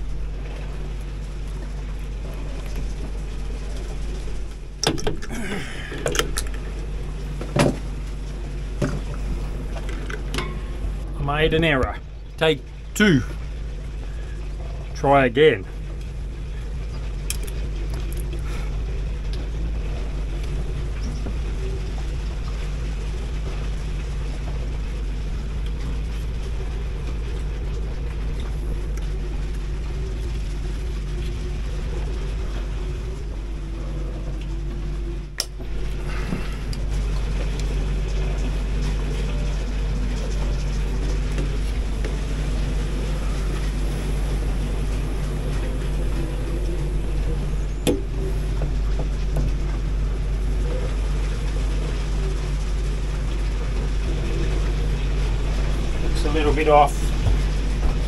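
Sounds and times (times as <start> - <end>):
low motor hum: 0.0 - 58.0.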